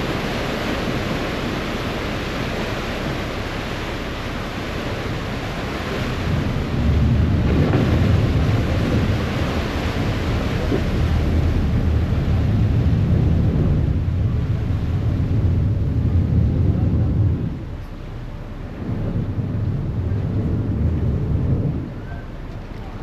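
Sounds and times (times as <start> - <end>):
ferry engine rumble: 0.0 - 23.0
wind buffeting microphone: 0.0 - 23.0.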